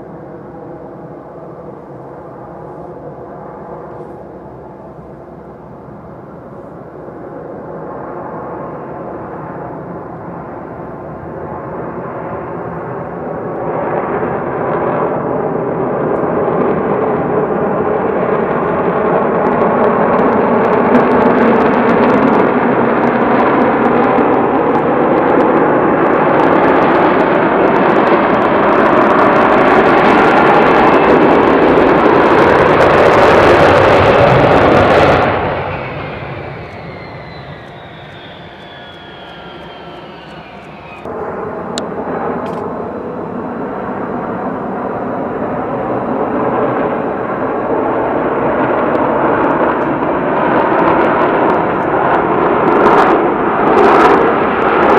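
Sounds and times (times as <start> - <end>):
fighter jet engine noise: 0.0 - 54.9.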